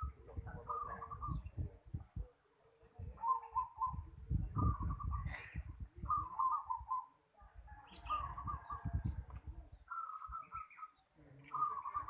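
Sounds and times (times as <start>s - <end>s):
doves cooing: 0.0s - 1.8s, 3.1s - 9.0s, 9.9s - 12.0s.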